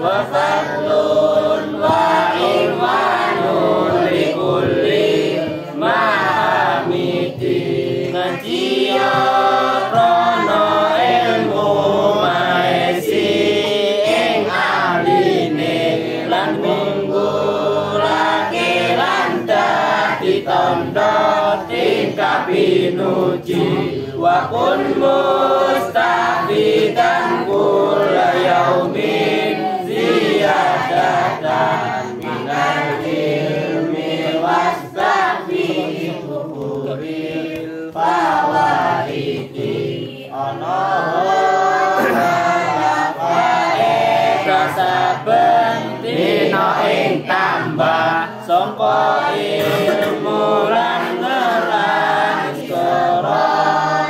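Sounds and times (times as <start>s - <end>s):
group chanting in unison: 0.0s - 54.0s.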